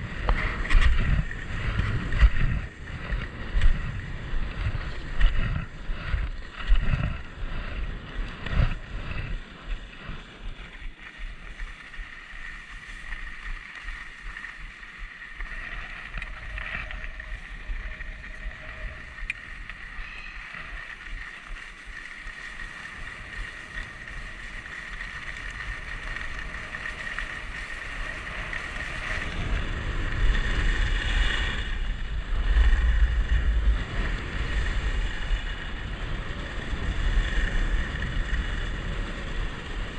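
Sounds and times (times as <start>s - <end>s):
skis sliding on snow: 0.0s - 39.9s
wind rushing over microphone: 0.0s - 39.9s.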